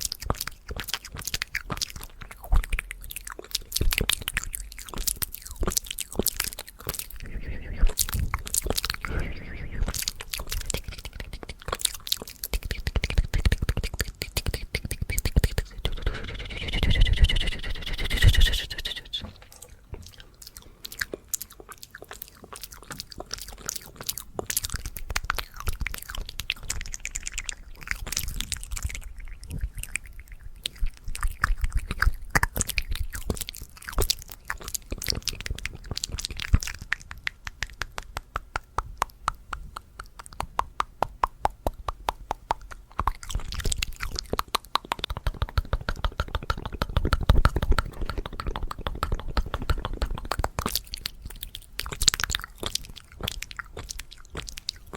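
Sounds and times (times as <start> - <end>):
wet mouth clicks and smacks: 0.0 - 54.9.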